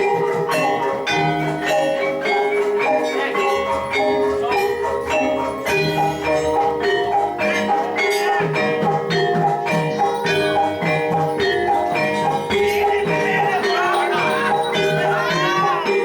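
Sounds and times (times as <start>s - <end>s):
gamelan metallophones ringing: 0.0s - 16.0s.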